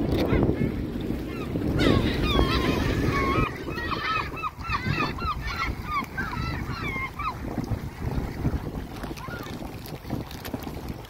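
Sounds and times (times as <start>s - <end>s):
wind rumble on microphone: 0.0s - 11.0s
gulls calling: 0.2s - 9.6s.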